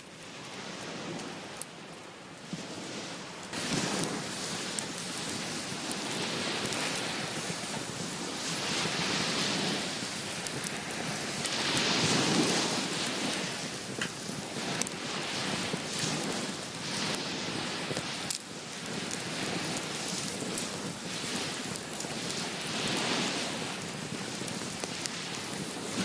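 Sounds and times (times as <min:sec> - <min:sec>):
sea waves washing ashore: 0:00.0 - 0:26.0.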